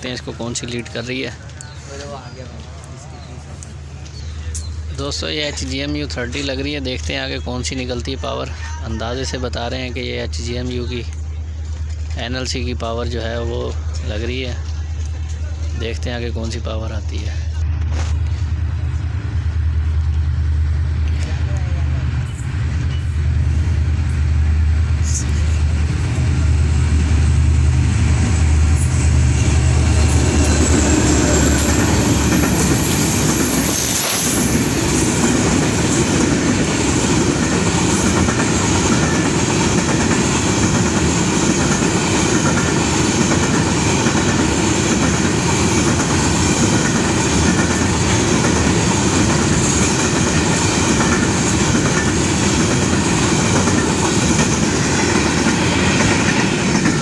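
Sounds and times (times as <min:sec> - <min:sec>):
diesel locomotive engine: 0:00.0 - 0:57.0
freight wagons rolling on rails: 0:00.0 - 0:57.0.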